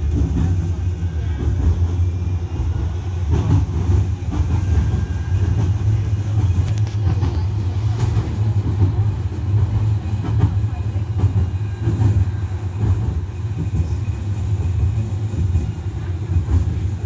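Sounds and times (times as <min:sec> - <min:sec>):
tram low rumble: 0:00.0 - 0:17.0.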